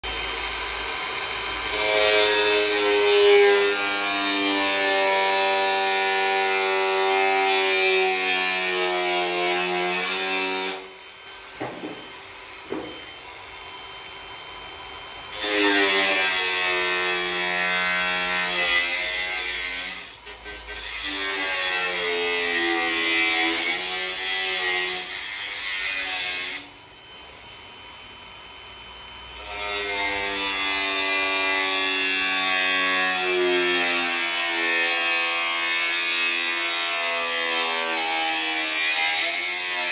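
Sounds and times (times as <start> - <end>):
angle grinder cutting metal: 0.0 - 28.1, 28.8 - 39.9.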